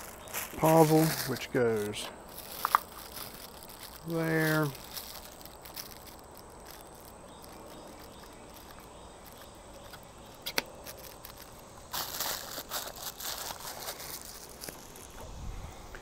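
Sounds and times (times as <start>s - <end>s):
plastic packaging crinkling: 0.0s - 15.3s.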